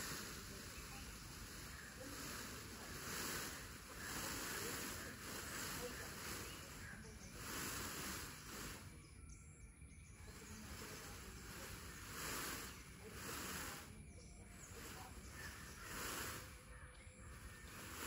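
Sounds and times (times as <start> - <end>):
soft pulsing hiss: 0.0 - 18.0
steady low rumble: 0.0 - 18.0.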